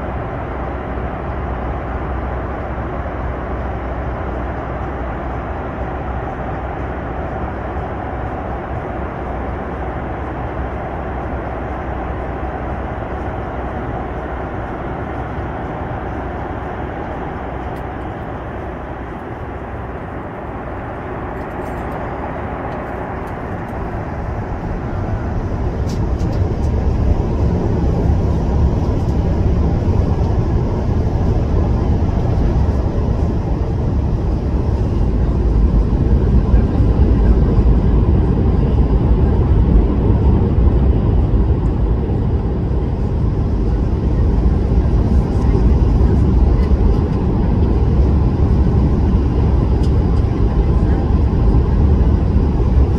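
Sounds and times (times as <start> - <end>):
airliner cabin engine rumble: 0.0 - 52.9.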